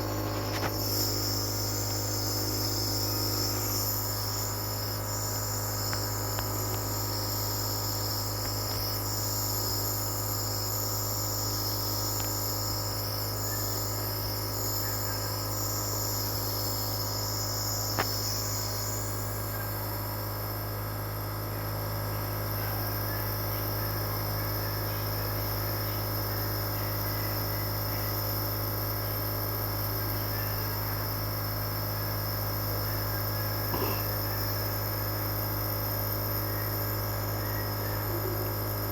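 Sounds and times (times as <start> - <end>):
high-pitched hiss: 0.0 - 38.9
nebulizer compressor humming: 0.0 - 38.9.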